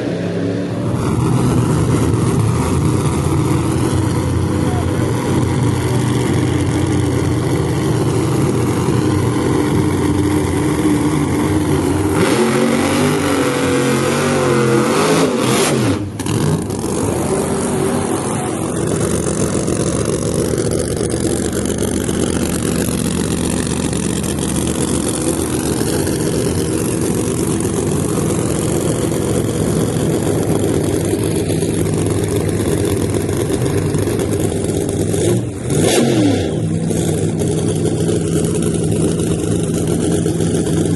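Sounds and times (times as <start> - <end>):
drag car engine revving: 0.0 - 40.9.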